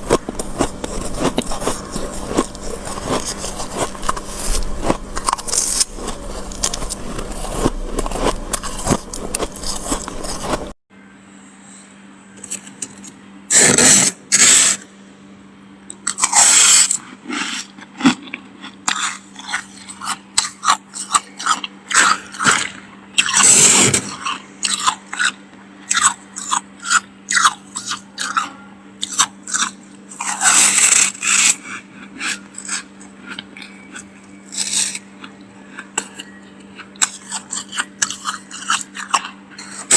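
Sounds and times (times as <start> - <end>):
freezer frost scraping and crunching: 0.0 - 10.8, 16.0 - 39.9
faint steady hum: 0.0 - 39.9.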